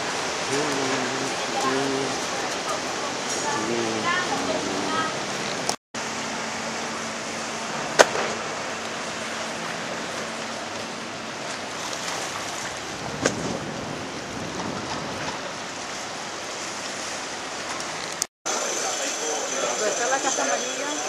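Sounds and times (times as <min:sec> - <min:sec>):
water and wind rushing: 0:00.0 - 0:18.3.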